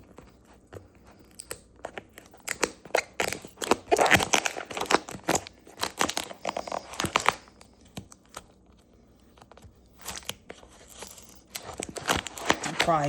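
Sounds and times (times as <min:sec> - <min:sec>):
packaging tearing and crinkling: 0:01.1 - 0:08.7, 0:09.4 - 0:13.0.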